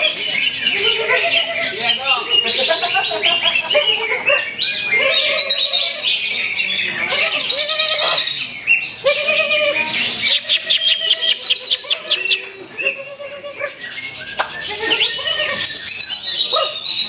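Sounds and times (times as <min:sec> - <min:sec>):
other songbirds: 0:00.0 - 0:17.0
people's voices: 0:00.0 - 0:17.0
songbird singing: 0:00.0 - 0:17.0.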